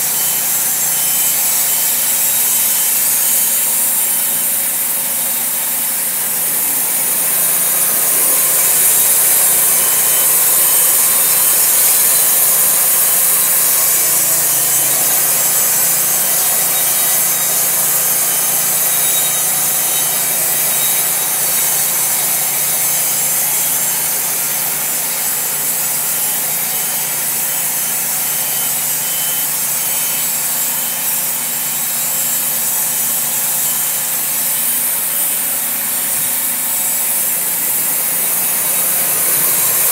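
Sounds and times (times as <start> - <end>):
sawmill engine humming: 0.0 - 29.9, 31.2 - 39.9
band blade sawing wood: 0.0 - 39.9.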